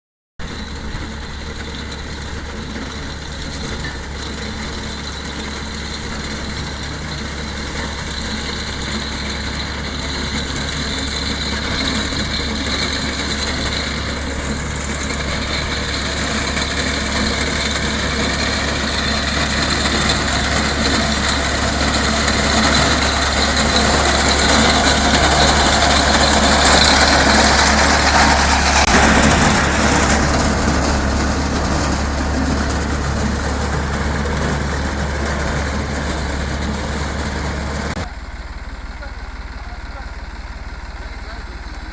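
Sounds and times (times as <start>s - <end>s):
tractor diesel engine running: 0.4s - 41.9s.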